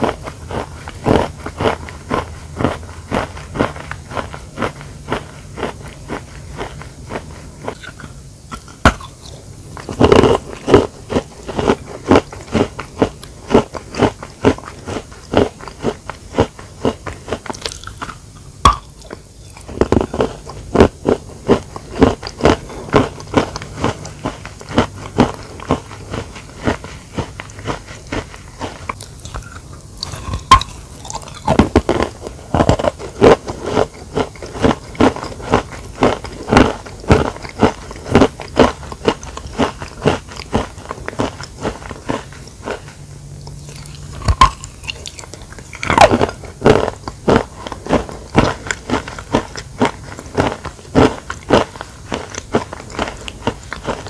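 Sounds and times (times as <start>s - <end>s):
person crunching chalk: 0.0s - 54.0s.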